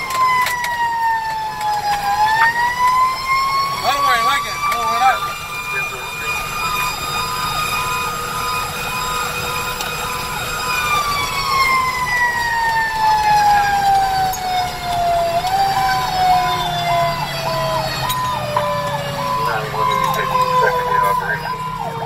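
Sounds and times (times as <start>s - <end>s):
pulsing siren tone: 0.0s - 22.0s
siren whine sliding down: 0.0s - 22.0s
truck rumble: 0.0s - 22.0s.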